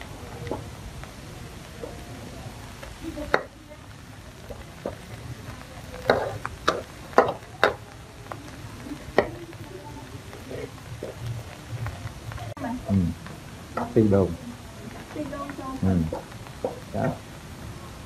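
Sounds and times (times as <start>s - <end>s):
light sizzle: 0.0s - 18.0s.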